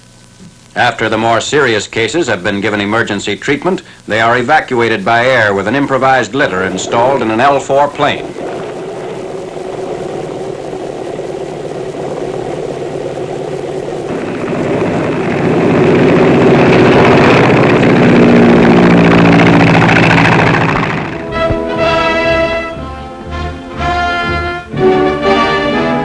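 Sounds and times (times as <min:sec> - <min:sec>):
light plane propeller engine: 0:04.9 - 0:26.0.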